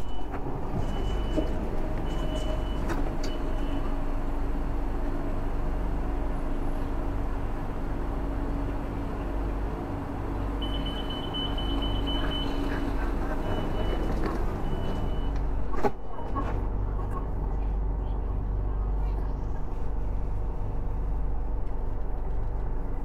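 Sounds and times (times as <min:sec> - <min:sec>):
electric train rumble: 0:00.0 - 0:23.0.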